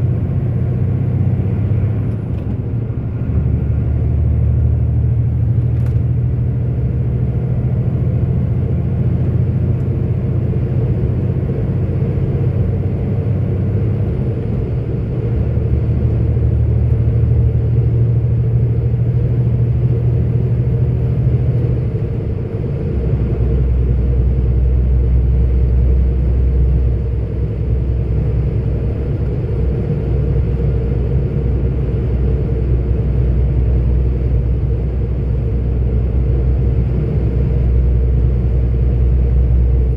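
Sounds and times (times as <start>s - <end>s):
road noise inside cab: 0.0s - 39.9s
truck diesel engine rumble: 0.0s - 39.9s.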